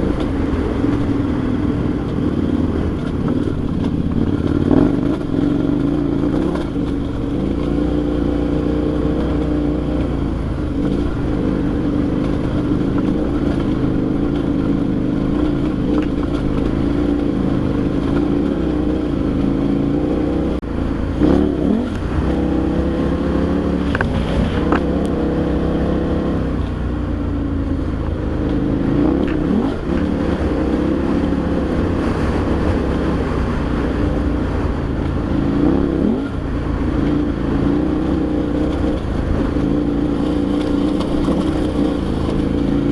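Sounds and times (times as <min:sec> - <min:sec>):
motorcycle engine running: 0:00.0 - 0:42.9
road and wind rumble: 0:00.0 - 0:42.9.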